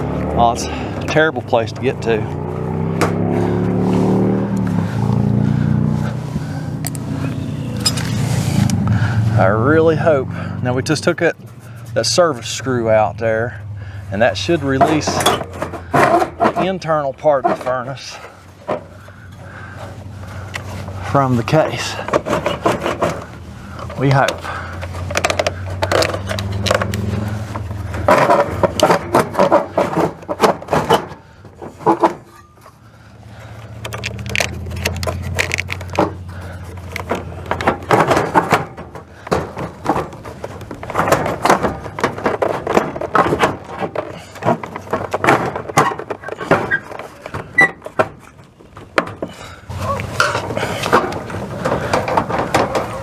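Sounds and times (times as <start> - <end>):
metal scraping: 0.0 - 10.1, 13.3 - 48.4, 49.7 - 53.0
clunks and knocks: 0.0 - 10.2, 12.1 - 53.0.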